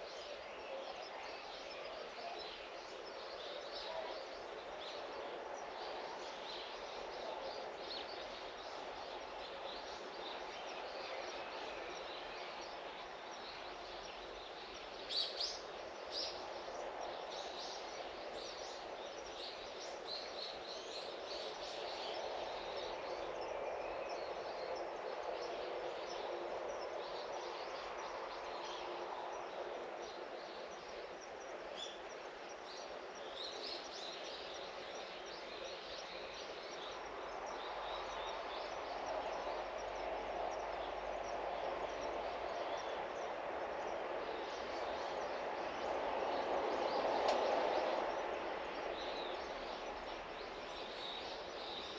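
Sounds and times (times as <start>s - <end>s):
outdoor background noise: 0.0s - 51.9s.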